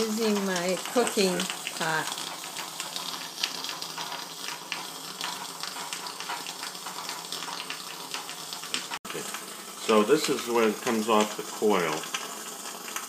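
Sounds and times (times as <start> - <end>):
small ticks and spits: 0.0 - 13.0
steam hissing from pressure cooker: 0.0 - 13.0.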